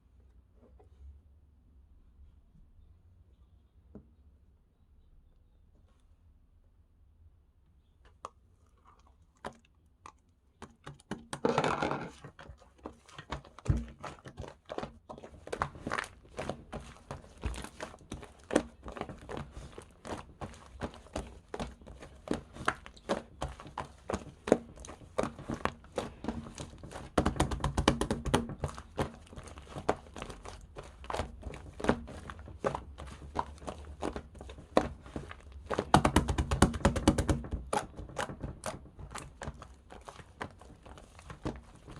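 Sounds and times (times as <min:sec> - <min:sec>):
slime squishing: 0:07.9 - 0:41.9.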